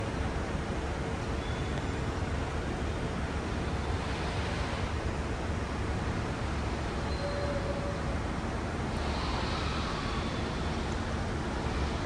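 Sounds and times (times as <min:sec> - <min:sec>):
city road traffic rumble: 0:00.0 - 0:12.0.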